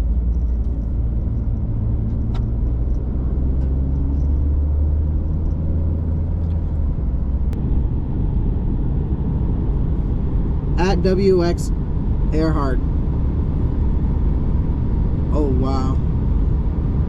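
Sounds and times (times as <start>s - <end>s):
car road noise rumble: 0.0s - 17.0s
faint engine hum: 0.0s - 17.0s.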